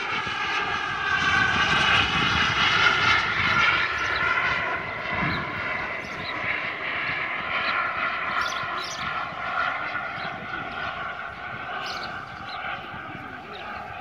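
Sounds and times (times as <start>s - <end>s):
model jet whine: 0.0s - 14.0s.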